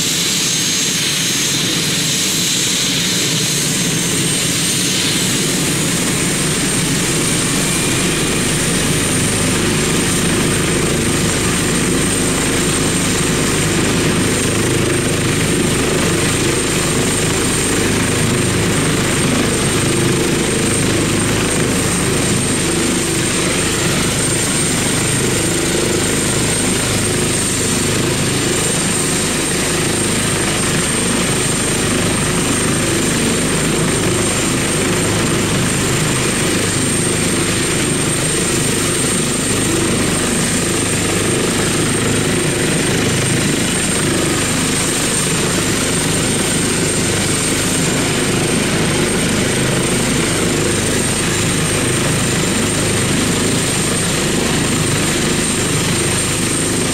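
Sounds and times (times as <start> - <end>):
helicopter turbine whine: 0.0 - 56.9
rotor blades beating: 3.4 - 56.9.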